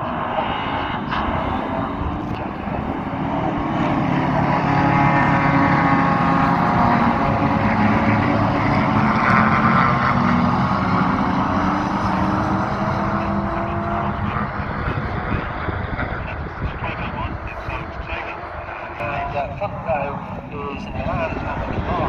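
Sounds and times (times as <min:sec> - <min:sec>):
racing car engines at high revs: 0:00.0 - 0:19.3.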